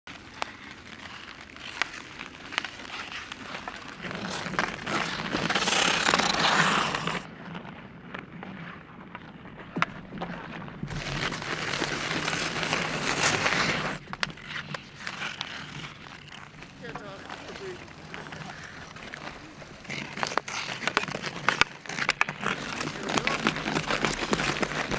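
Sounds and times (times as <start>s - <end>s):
hockey sticks and puck clacking: 0.1s - 8.6s, 9.2s - 24.9s
ice skates scraping on ice: 0.1s - 24.9s.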